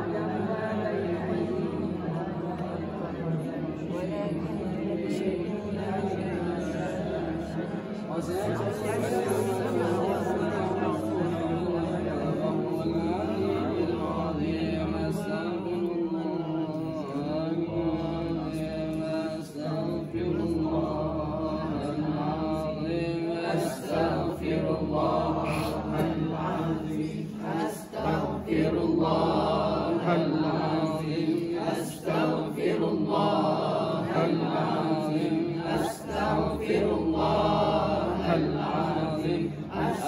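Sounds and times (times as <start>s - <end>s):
men chanting prayers: 0.0s - 40.0s.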